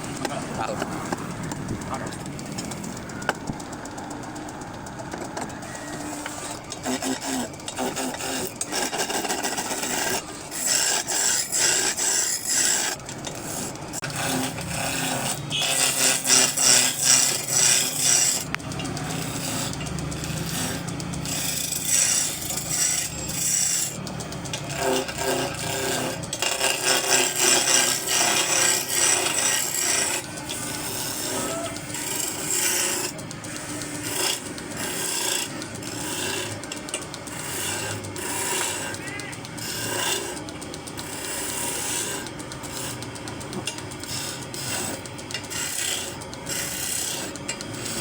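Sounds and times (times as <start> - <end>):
hand tool scraping wood: 5.6 - 40.4, 41.0 - 48.0.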